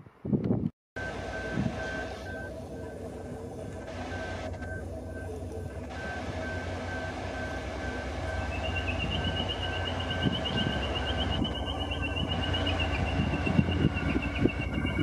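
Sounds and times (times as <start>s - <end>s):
diesel locomotive rumble: 1.0s - 15.0s.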